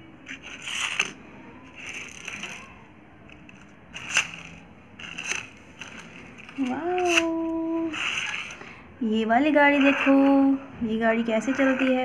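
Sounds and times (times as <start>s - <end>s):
toy car scraping on concrete: 0.2s - 2.8s, 3.5s - 8.8s, 9.5s - 10.6s, 11.2s - 12.0s.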